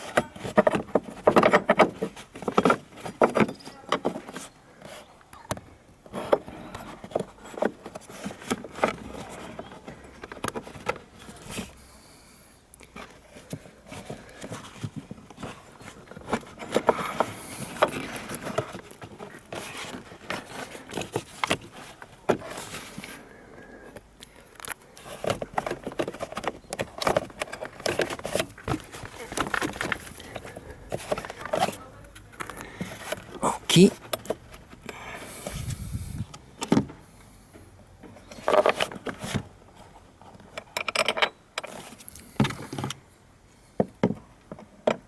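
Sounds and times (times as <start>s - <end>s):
clicks knocks and scraping of hand work: 0.0s - 11.8s, 12.8s - 33.4s, 34.0s - 43.0s.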